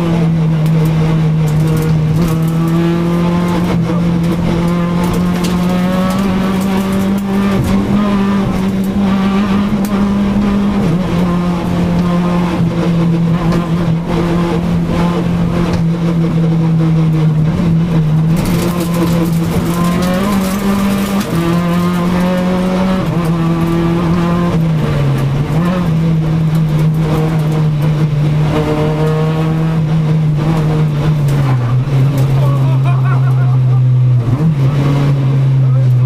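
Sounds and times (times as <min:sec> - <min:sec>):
rally car engine at high revs: 0:00.0 - 0:36.0.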